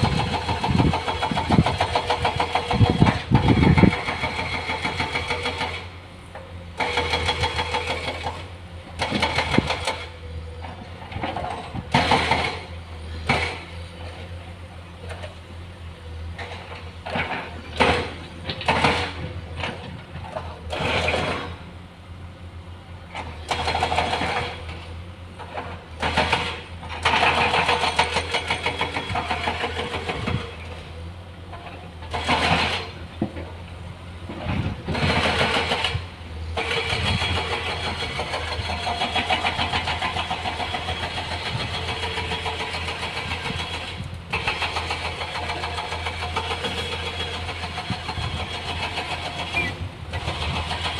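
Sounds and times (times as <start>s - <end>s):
diesel engines working: 0.0s - 50.9s.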